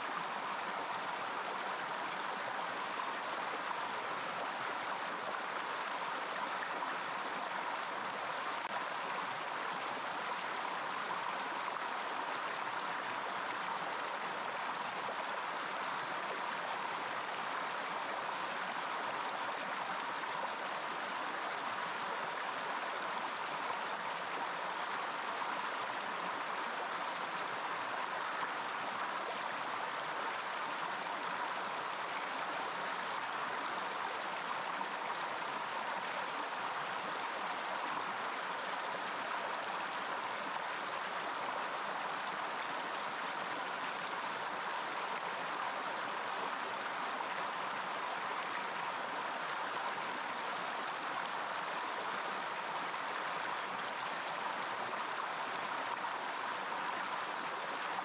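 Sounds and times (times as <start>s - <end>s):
stream splashing over rocks: 0.0s - 58.0s.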